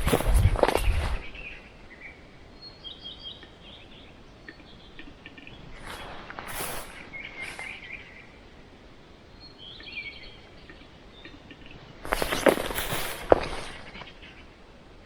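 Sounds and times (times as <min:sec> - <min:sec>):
rustling with sharp cracks: 0:00.0 - 0:02.0, 0:03.4 - 0:09.0, 0:10.4 - 0:15.0
birds chirping: 0:00.0 - 0:15.0.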